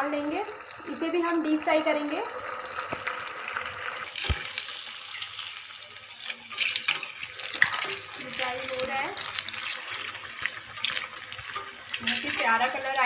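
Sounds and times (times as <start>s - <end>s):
deep-frying oil sizzling: 0.0s - 13.0s.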